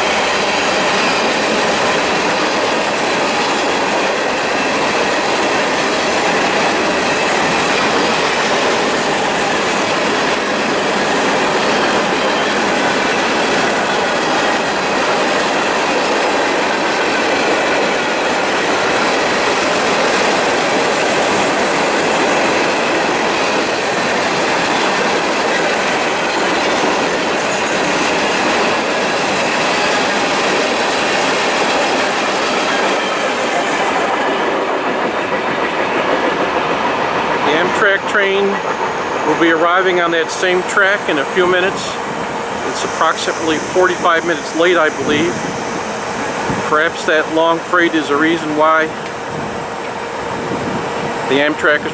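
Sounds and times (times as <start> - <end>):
train wheels clattering on rails: 0.0 - 51.9.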